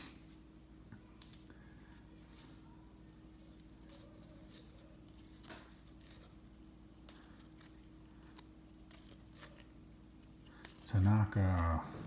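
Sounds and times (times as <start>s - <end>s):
low steady hum: 0.0s - 12.0s
trading cards being handled: 1.1s - 12.0s.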